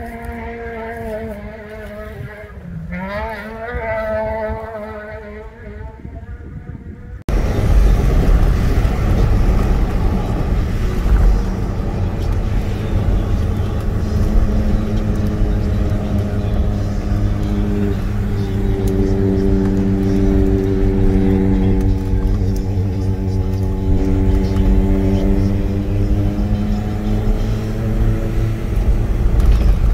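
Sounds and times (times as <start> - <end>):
car engine drone: 0.0 - 29.9
tyres rumbling on rough road: 0.0 - 29.9.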